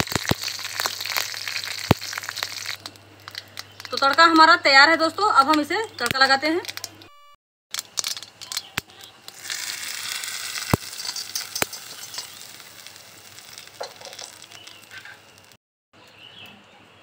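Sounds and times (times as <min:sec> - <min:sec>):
hot oil sizzling: 0:00.0 - 0:06.9, 0:07.7 - 0:15.6.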